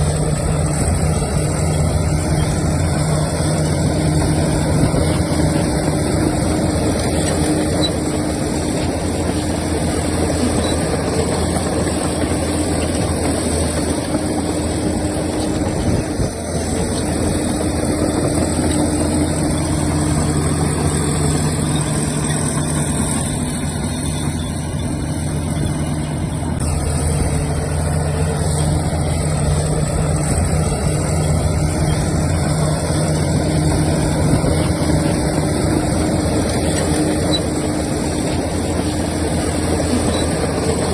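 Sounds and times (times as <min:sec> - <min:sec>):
diesel earthmoving machinery engine: 0:00.0 - 0:40.9.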